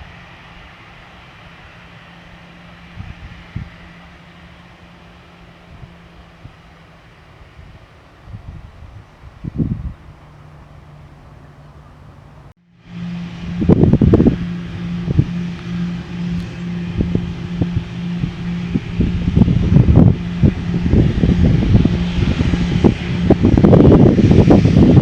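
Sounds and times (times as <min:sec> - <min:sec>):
jet engines humming: 0:00.0 - 0:25.0
wind buffeting microphone: 0:00.0 - 0:25.0.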